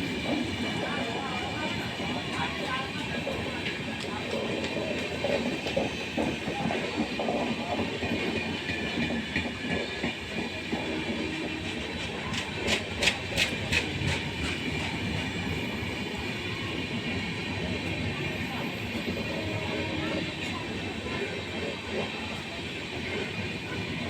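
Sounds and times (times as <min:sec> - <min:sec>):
train rattling along track: 0:00.0 - 0:24.0.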